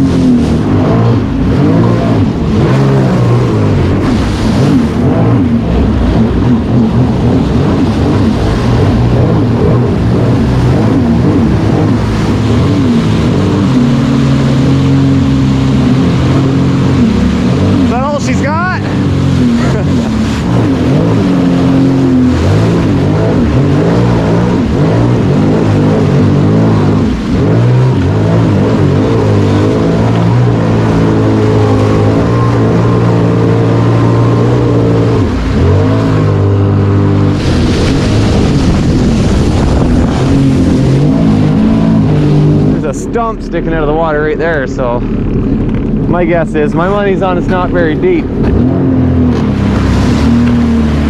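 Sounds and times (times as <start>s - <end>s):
watercraft engine running: 0.0s - 51.0s.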